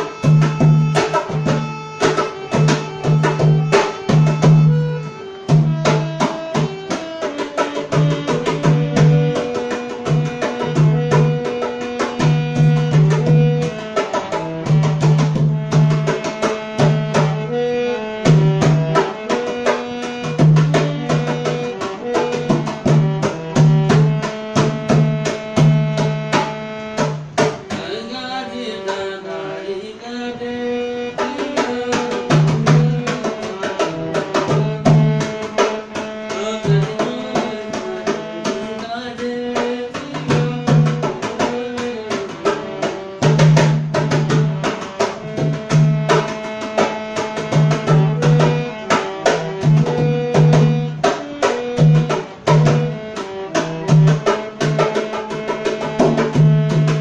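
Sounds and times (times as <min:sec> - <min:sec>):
hand drum steady rhythm: 0:00.0 - 0:27.9, 0:31.1 - 0:57.0
harmonium reedy notes: 0:00.0 - 0:57.0.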